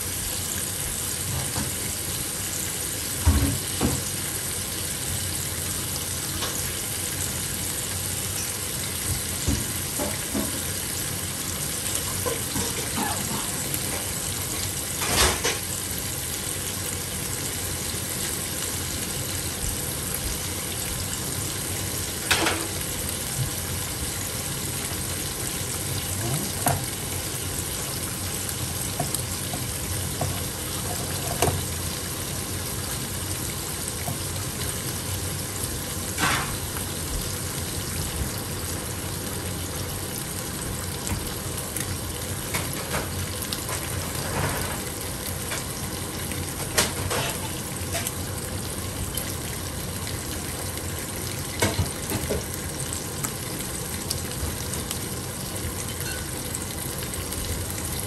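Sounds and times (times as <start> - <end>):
fish sizzling in oil: 0.0 - 58.0.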